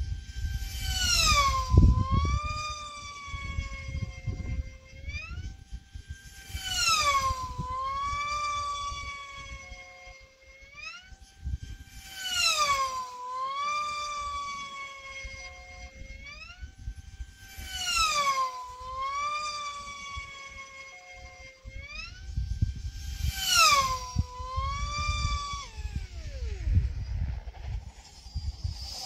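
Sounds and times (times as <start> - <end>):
model aircraft whine passing by: 0.0 - 29.0.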